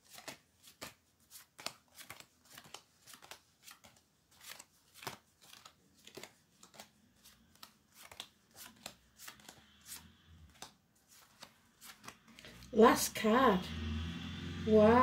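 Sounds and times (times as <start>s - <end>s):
cards being shuffled: 0.0s - 12.7s.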